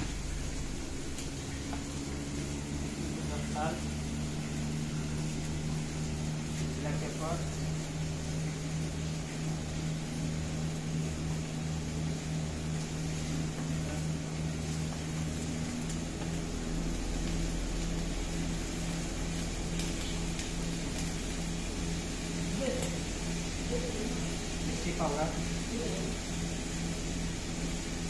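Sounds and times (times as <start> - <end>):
exhaust hood fan hum: 0.0 - 28.0
gas burner roar: 0.0 - 28.0.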